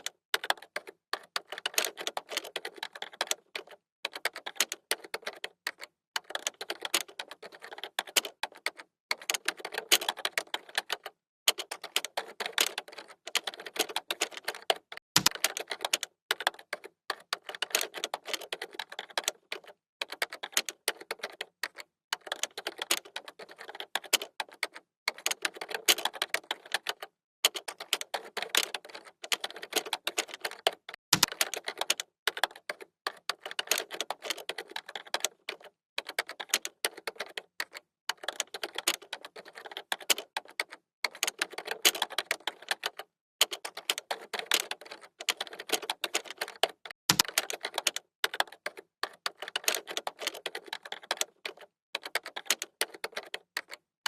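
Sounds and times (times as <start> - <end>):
fast keyboard typing: 0.0 - 53.9.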